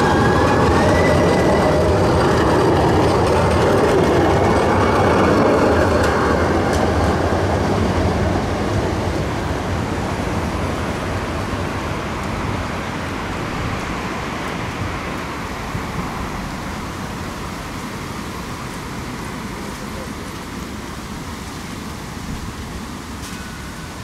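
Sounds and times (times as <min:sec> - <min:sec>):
street traffic hum: 0:00.0 - 0:24.0
tram rolling along track: 0:00.0 - 0:24.0.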